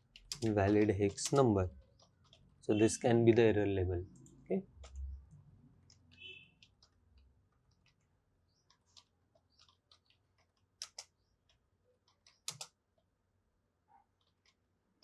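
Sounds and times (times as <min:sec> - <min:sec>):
computer keyboard typing: 0:00.0 - 0:03.4, 0:04.1 - 0:12.8.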